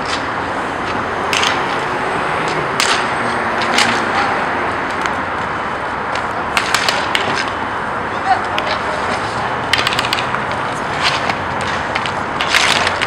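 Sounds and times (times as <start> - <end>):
hockey sticks and puck clacking: 0.0 - 13.0
steady rush of noise: 0.0 - 13.0.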